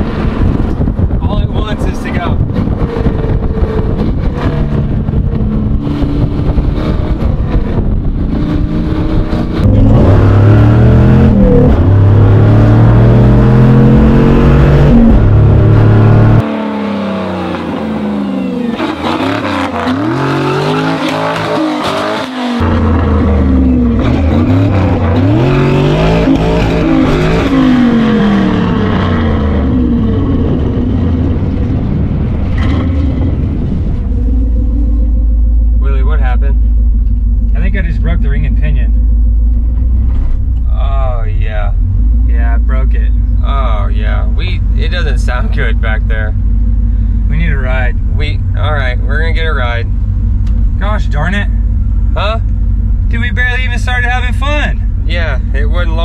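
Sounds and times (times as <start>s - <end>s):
vee-eight engine revving through gears: 2.4s - 56.0s.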